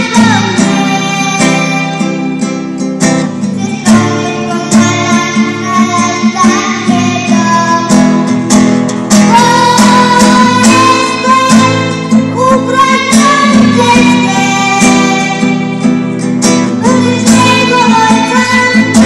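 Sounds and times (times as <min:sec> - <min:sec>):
girl singing: 0:00.0 - 0:02.6, 0:03.4 - 0:08.5, 0:09.1 - 0:19.0
strummed acoustic guitar: 0:00.0 - 0:19.0.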